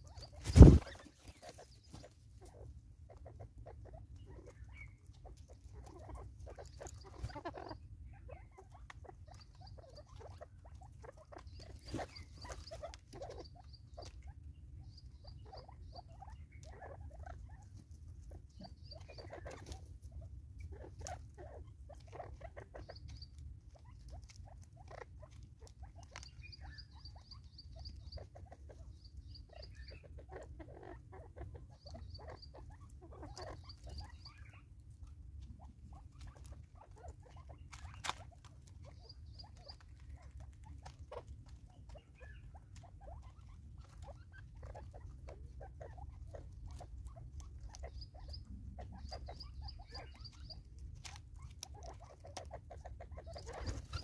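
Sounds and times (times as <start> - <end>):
birds pecking and scratching on wood: 0.0 - 54.0
high quick peeping calls: 0.0 - 54.0.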